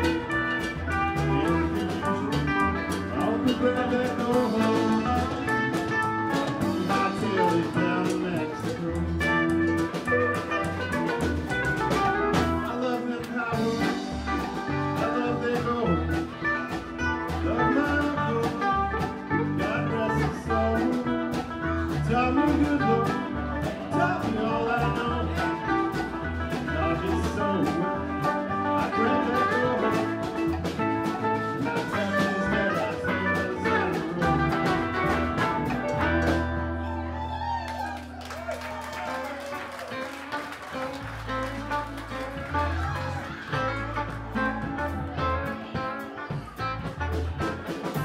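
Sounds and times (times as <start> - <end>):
drum beat: 0.0 - 37.6, 38.4 - 48.0
live band playing: 0.0 - 48.0.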